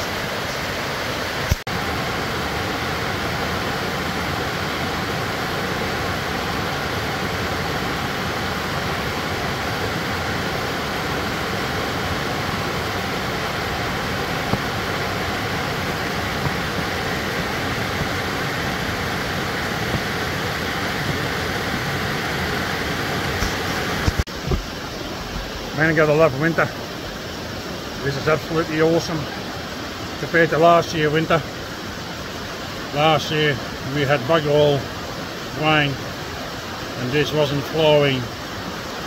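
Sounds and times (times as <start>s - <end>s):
waterfall rushing over rocks: 0.0s - 39.0s.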